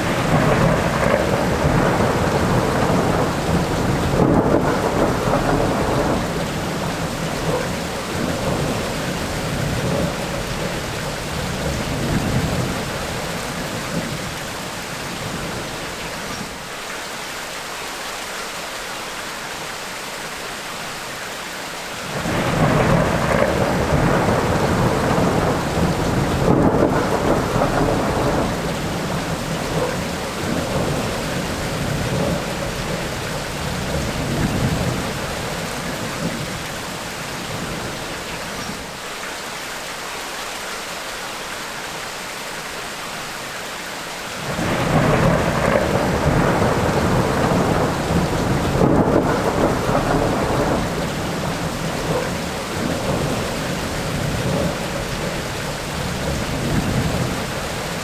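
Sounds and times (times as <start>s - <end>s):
thunder rumbling: 0.0s - 16.4s, 22.1s - 38.9s, 44.4s - 58.0s
heavy rain: 0.0s - 58.0s.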